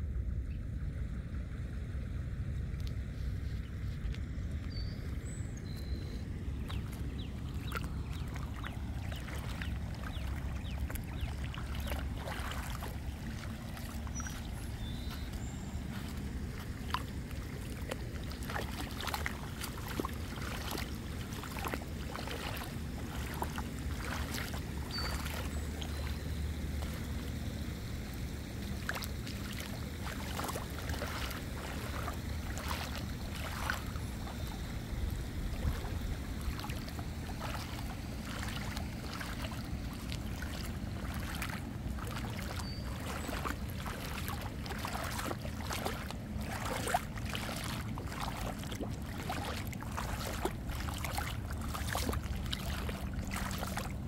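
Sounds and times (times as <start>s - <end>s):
water splashing: 2.8s - 54.0s
water rushing over spillway: 6.6s - 54.0s.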